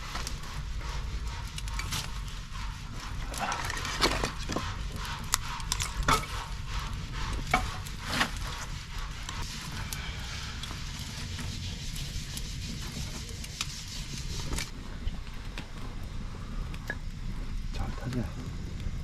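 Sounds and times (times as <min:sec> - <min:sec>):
wood fire crackling and hissing: 0:00.0 - 0:19.0.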